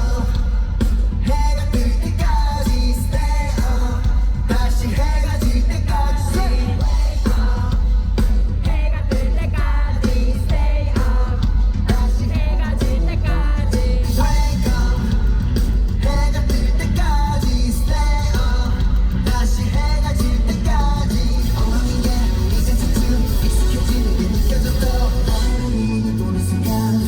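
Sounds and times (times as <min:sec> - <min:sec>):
person singing: 0:00.0 - 0:27.0
pop backing track with bass beat: 0:00.0 - 0:27.0.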